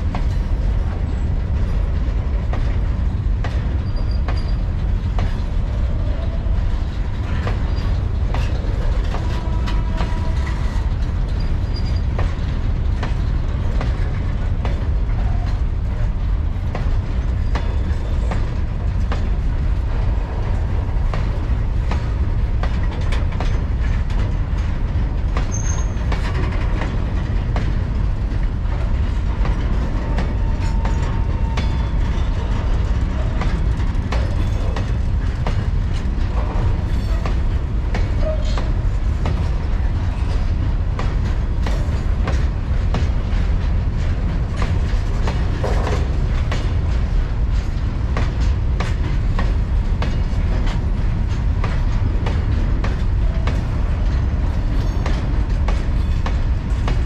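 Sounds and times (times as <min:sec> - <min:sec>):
wheels clattering over rail joints: 0:00.0 - 0:57.0.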